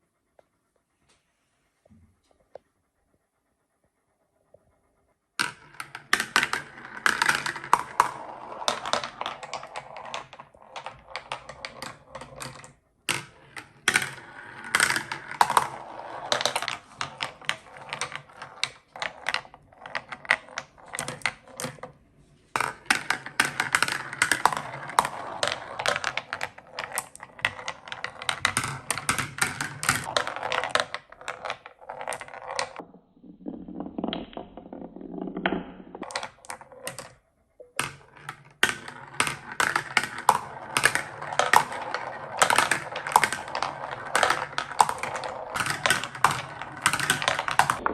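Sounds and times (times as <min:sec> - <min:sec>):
marbles clattering on wooden track: 0:05.4 - 0:47.9.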